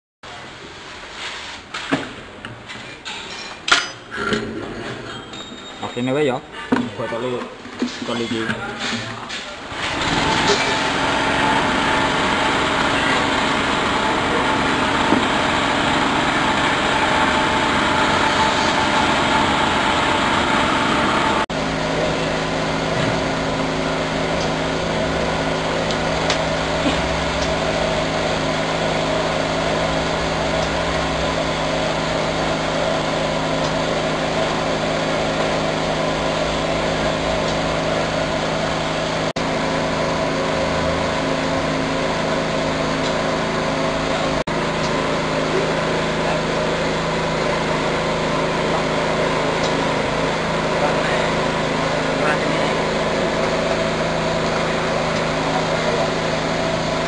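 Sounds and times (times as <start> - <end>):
filling machine motor humming: 8.5 - 57.0.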